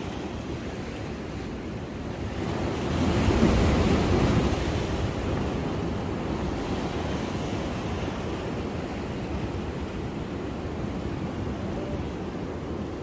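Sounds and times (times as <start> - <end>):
surf washing against breakwater: 0.0 - 13.0.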